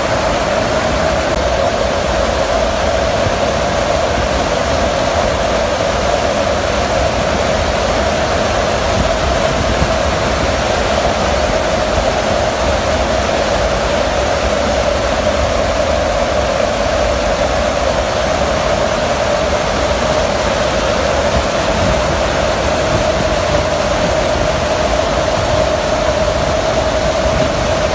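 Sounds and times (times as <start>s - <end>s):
aircraft engine drone: 0.0s - 27.9s
rush of air: 0.0s - 27.9s.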